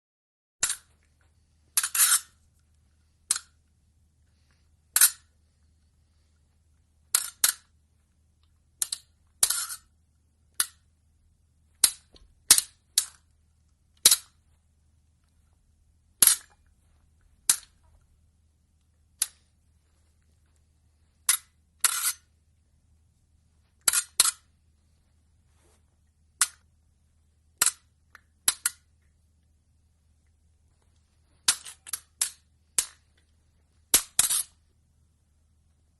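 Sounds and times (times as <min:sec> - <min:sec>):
faint low hum: 0:00.6 - 0:35.9.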